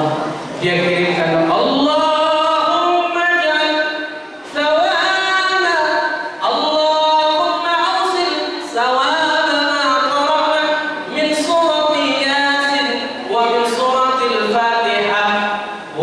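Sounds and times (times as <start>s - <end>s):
man chanting a prayer: 0.0s - 16.0s.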